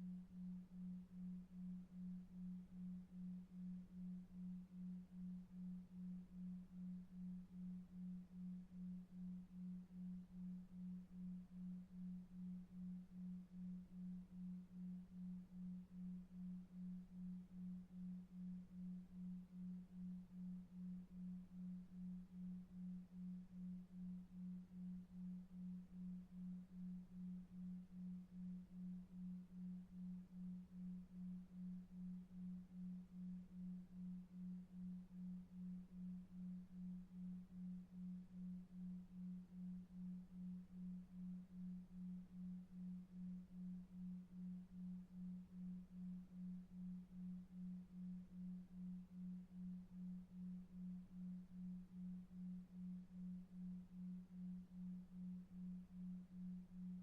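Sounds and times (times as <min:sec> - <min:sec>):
pulsing low sine tone: 0:00.0 - 0:57.0.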